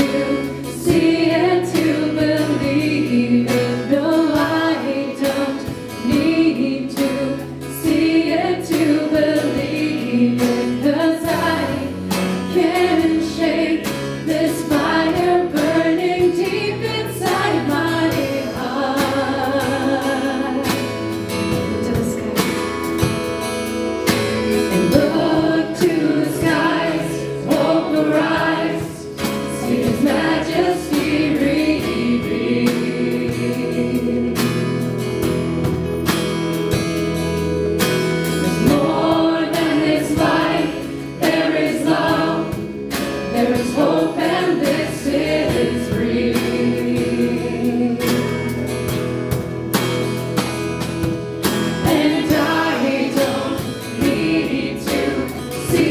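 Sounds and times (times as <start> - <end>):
group of people singing: 0.0 - 23.3, 24.0 - 36.8, 37.8 - 55.9
worship band playing: 0.0 - 55.9.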